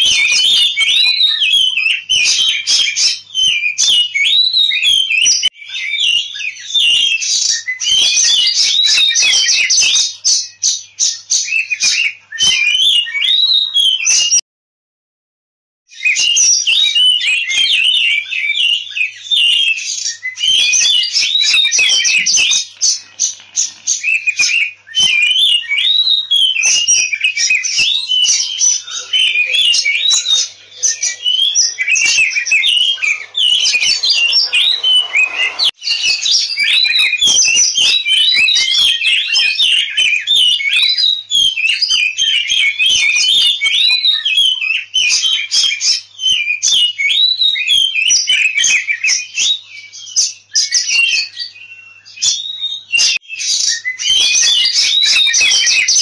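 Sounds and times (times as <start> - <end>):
bird singing whistled notes and trills: 0.0 - 14.4, 15.9 - 56.0.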